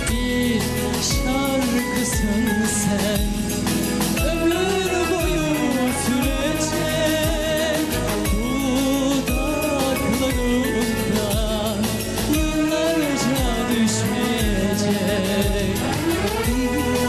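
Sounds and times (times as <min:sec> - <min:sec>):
instrumental accompaniment: 0:00.0 - 0:17.0
person singing: 0:00.0 - 0:17.0
steady thumping beat: 0:03.1 - 0:17.0.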